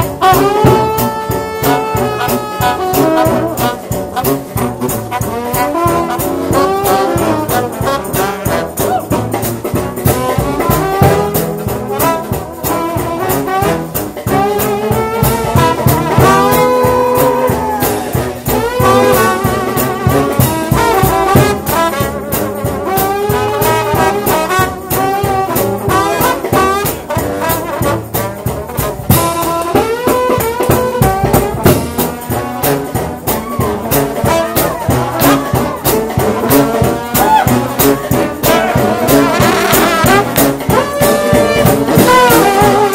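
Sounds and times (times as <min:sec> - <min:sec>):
brass ensemble playing fast tune: 0:00.0 - 0:42.9
driving drum beat: 0:00.0 - 0:42.9.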